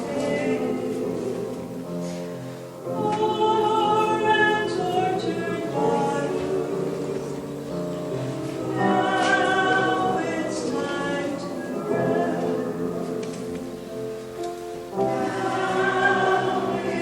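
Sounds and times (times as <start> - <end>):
choir singing: 0.0 - 17.0.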